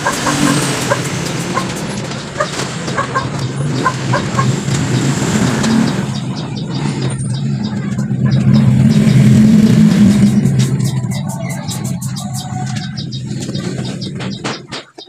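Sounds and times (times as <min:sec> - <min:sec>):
chickens clucking: 0:00.0 - 0:15.0
vehicle engine running: 0:00.0 - 0:15.0.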